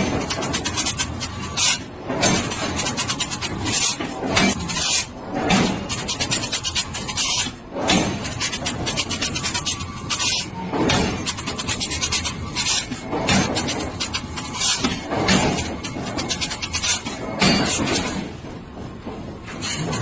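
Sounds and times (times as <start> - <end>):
harsh scraping and rasping: 0.0 - 18.3.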